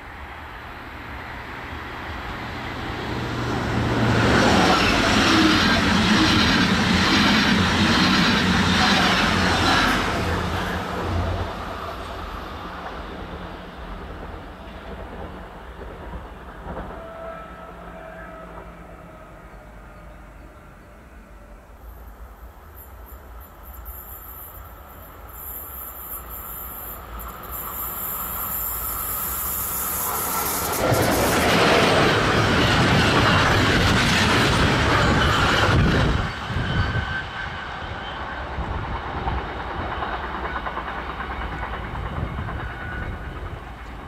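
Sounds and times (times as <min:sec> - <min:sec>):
train passing with loud rush: 0:00.0 - 0:44.0.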